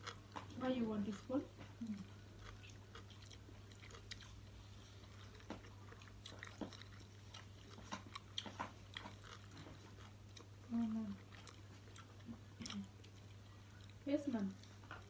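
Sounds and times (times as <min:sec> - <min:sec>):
low steady hum: 0:00.0 - 0:15.0
wet chewing: 0:00.0 - 0:15.0.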